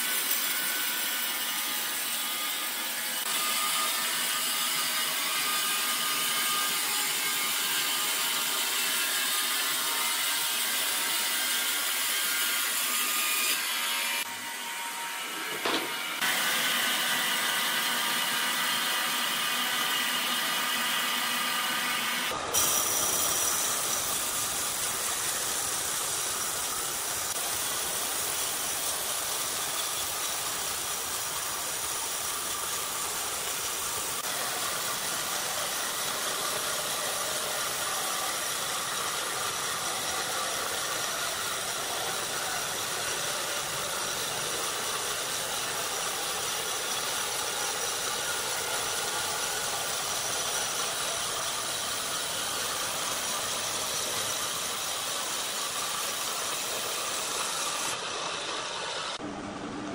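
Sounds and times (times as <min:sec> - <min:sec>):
band saw cutting timber: 0:00.0 - 0:59.3.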